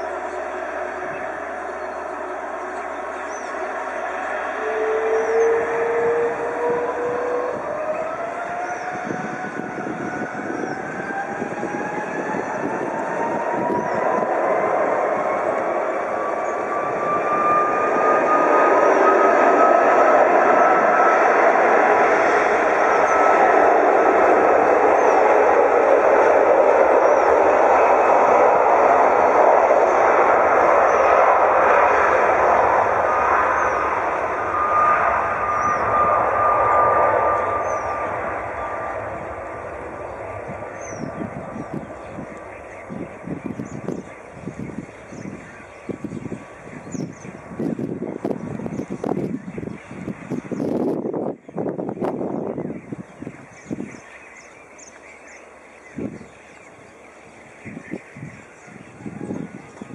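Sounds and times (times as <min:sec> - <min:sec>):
jet engines rumbling and whining: 0:00.0 - 0:59.9.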